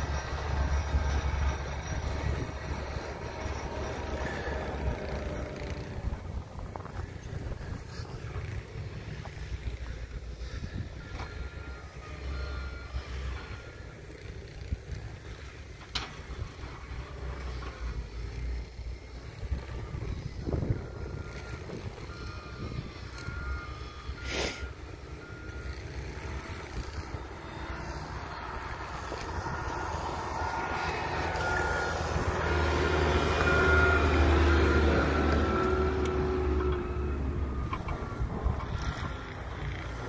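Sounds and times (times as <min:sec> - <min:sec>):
wheel loader diesel engine: 0:00.0 - 0:40.0.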